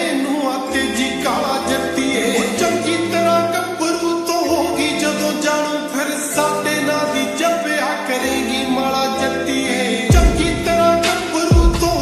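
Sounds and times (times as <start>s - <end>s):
person singing: 0.0s - 12.0s
slowed reverb-heavy pop song: 0.0s - 12.0s.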